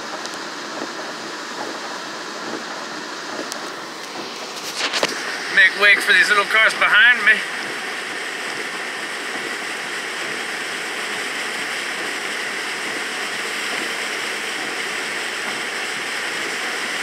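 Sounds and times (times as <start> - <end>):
tyres spraying through water: 0.0 - 17.0.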